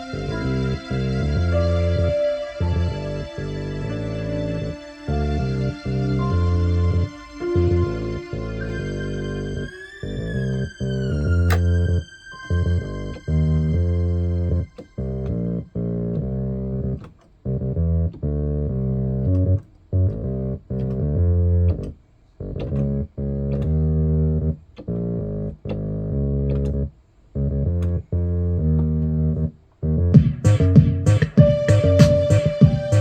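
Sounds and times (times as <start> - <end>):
instrumental music with heavy bass: 0.0 - 33.0
sustained pitched notes: 0.0 - 33.0.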